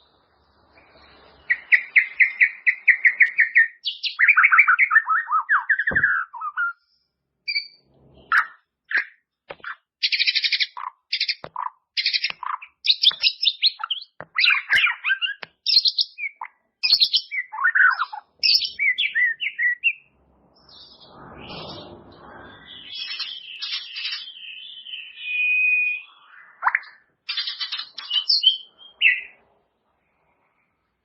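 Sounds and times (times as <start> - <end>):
songbird trills and whistles: 0.7 - 6.9, 7.5 - 29.4.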